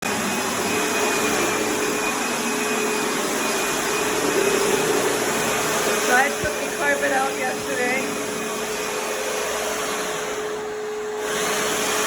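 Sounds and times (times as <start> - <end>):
electric power sander running: 0.1 - 12.0.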